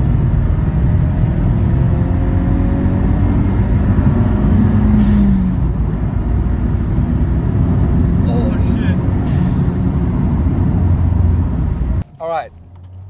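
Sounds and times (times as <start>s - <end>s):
engine note rising in pitch: 0.0s - 12.0s
engine and road rumble: 0.0s - 13.0s.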